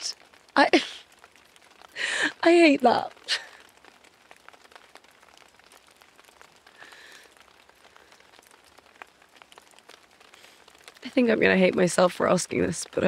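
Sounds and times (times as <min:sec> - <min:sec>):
light rain patter: 0:00.0 - 0:13.0.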